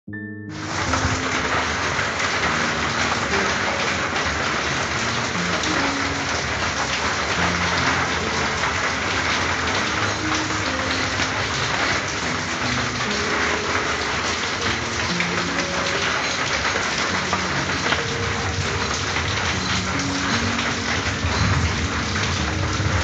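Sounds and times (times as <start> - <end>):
heavy rain on a tin roof: 0.5 - 23.0.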